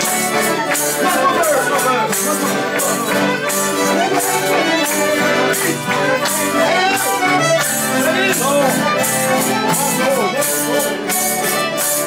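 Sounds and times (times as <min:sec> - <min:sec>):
accordion chords: 0:00.0 - 0:12.0
jingling percussion beat: 0:00.0 - 0:12.0.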